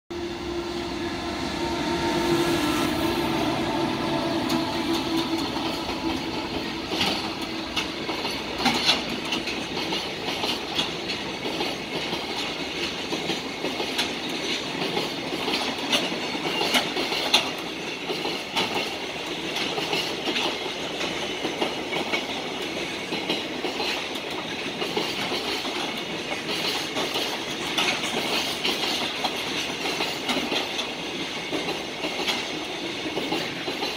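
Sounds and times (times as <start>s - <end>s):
electric locomotive hum: 0.1s - 33.9s
train wheels clacking over rail joints: 3.0s - 33.9s.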